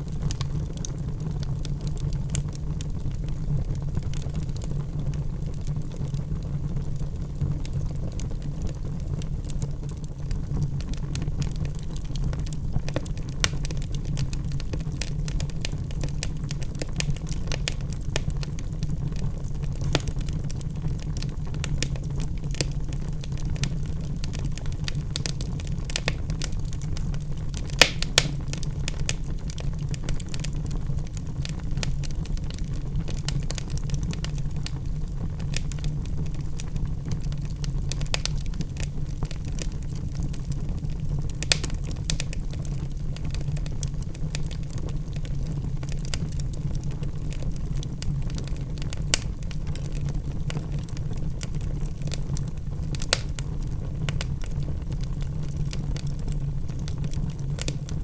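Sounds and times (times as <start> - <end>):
wood logs crackling in fireplace: 0.0 - 58.0.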